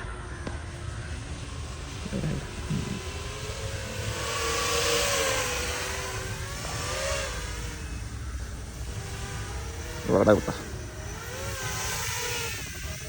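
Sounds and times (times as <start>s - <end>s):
drone propeller whine: 0.0s - 13.0s
low wind rumble: 0.0s - 13.0s.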